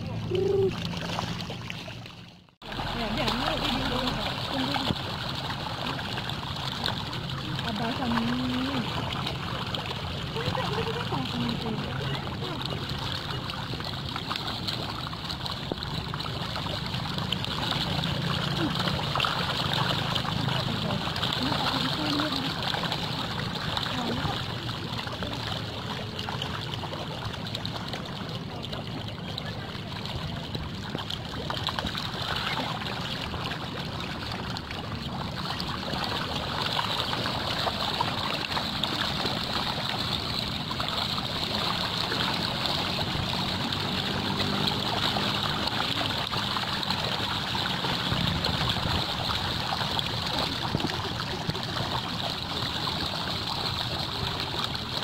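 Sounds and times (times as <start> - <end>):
fish splashing at water surface: 0.0 - 55.0.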